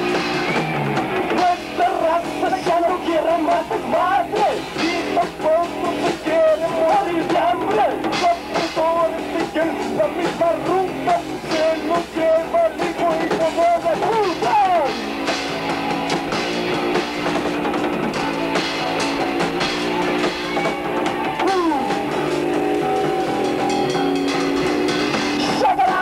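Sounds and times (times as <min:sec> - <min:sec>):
drum kit: 0:00.0 - 0:26.0
electric guitar: 0:00.0 - 0:26.0.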